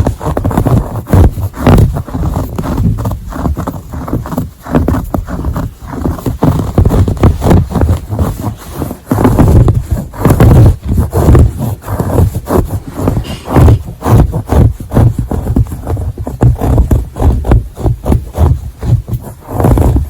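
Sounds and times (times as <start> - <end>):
scratching on textile: 0.0 - 20.0.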